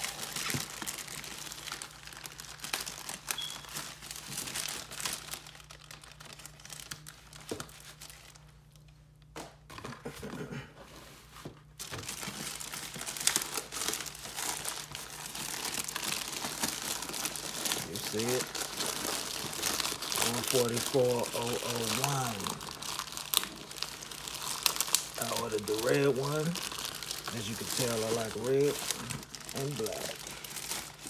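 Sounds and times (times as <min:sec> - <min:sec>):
packaging crinkling: 0:00.0 - 0:09.0, 0:11.8 - 0:31.0.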